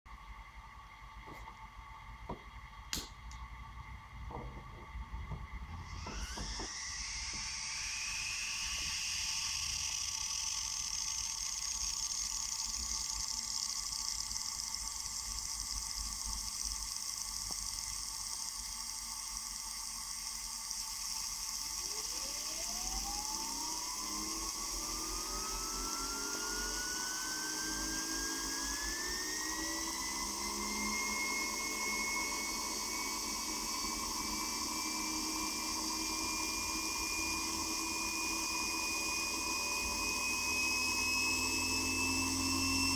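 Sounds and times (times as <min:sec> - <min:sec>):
turbine whine rising in pitch: 0:00.1 - 0:42.9.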